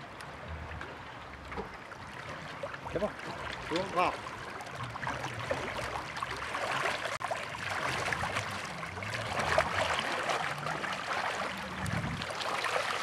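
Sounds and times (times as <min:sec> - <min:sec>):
sea water washing: 0:00.0 - 0:13.0
small water splashes: 0:00.0 - 0:13.0.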